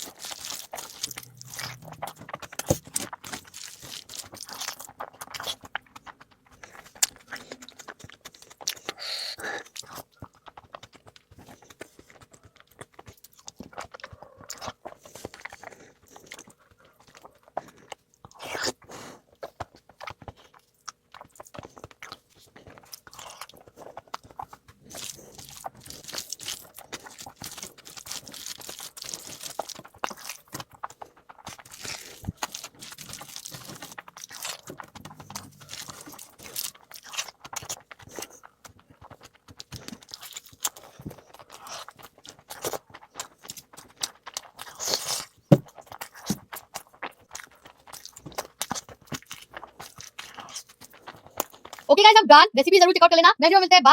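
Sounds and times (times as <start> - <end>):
person chewing and crunching food: 0.0 - 52.2.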